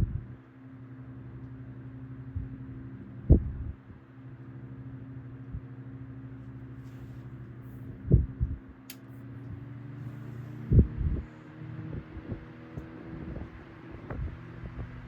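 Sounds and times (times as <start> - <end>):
table fan motor hum: 0.0 - 15.0.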